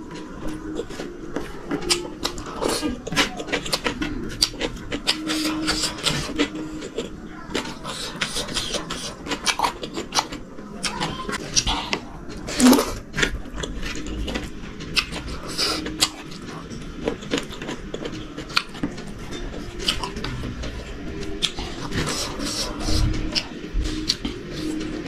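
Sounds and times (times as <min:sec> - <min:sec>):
close chewing with mouth clicks: 0:00.0 - 0:25.0.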